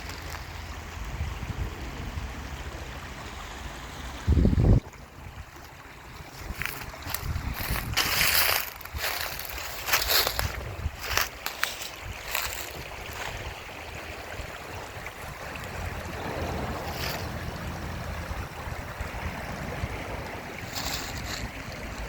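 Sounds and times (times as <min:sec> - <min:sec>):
wind rumble on microphone: 0:00.0 - 0:03.4, 0:04.0 - 0:22.0
mountain stream rushing: 0:00.0 - 0:22.0.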